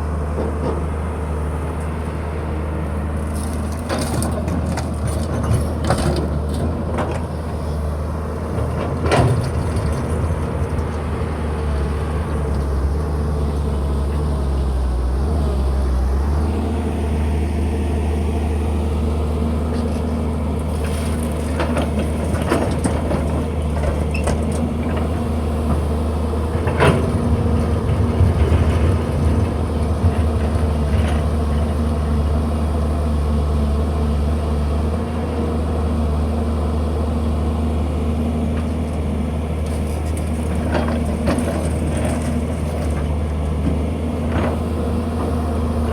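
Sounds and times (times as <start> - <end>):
excavator engine running: 0.0 - 45.9.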